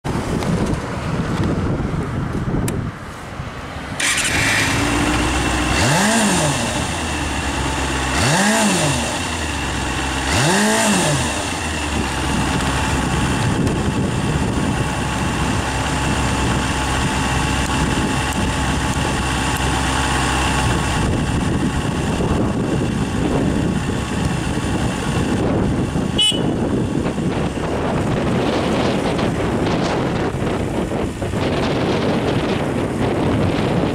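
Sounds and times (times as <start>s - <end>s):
motorcycle engine revving and idling: 4.0s - 33.9s.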